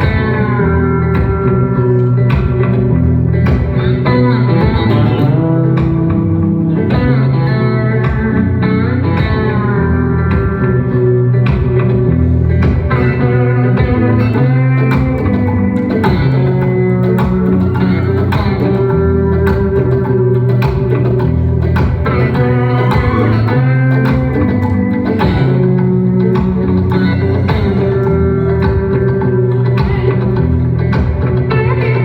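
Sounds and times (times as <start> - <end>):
low bass line: 0.0 - 32.0
plucked guitar notes: 0.0 - 32.0.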